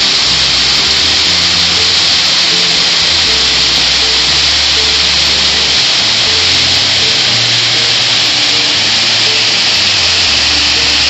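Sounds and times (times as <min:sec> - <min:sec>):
quiet background music: 0:00.0 - 0:11.0
waterfall rushing into pool: 0:00.0 - 0:11.0.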